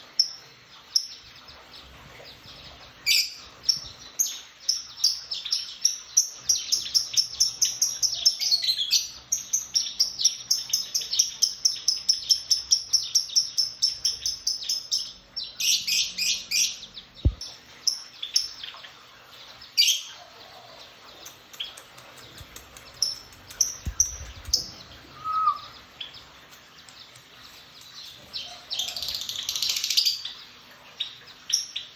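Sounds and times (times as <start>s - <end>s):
lovebirds chirping: 0.0s - 31.9s.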